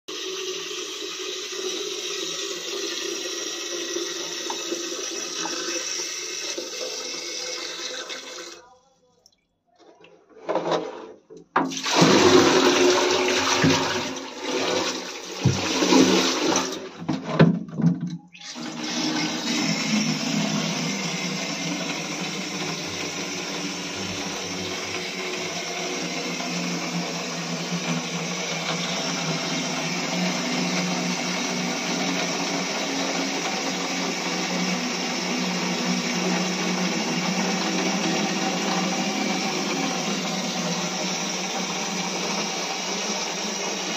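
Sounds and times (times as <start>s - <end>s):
tap water running into jug: 0.1s - 8.6s, 11.6s - 43.9s.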